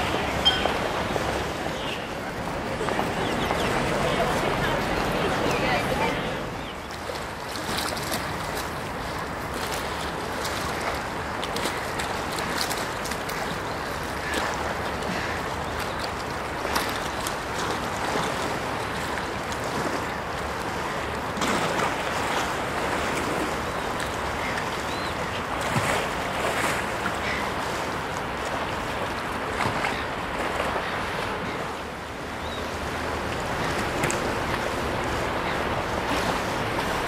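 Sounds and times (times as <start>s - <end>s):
harbour water washing: 0.0s - 37.0s.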